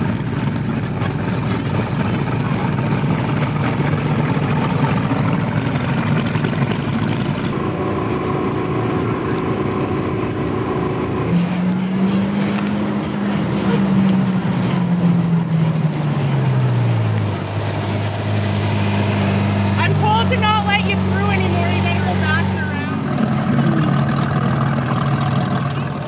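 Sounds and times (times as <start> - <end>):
sports car engines running: 0.0 - 26.0.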